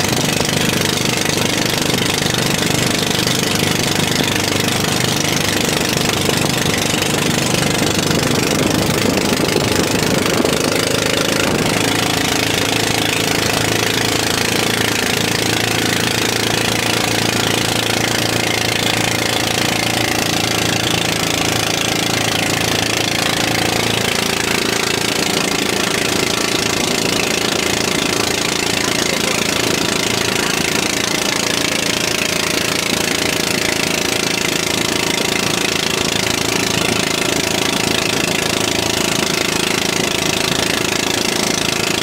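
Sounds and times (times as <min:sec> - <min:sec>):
boat engine knocking: 0:00.0 - 0:42.0
water rushing: 0:00.0 - 0:42.0
wind: 0:00.0 - 0:42.0.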